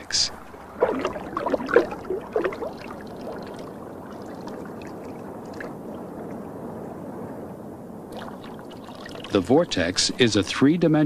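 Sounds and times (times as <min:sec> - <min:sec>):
water swirling in a whirlpool: 0:00.0 - 0:10.9.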